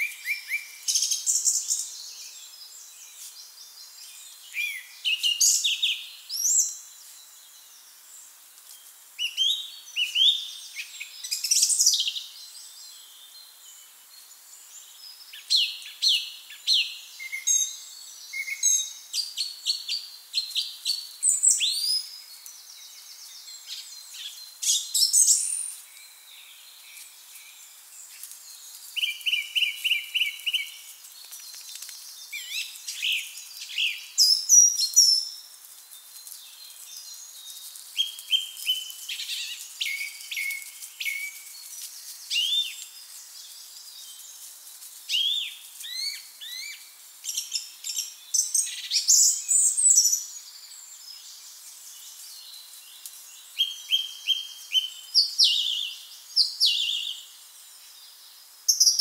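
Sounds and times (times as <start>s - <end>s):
song thrush singing: 0.0s - 59.0s.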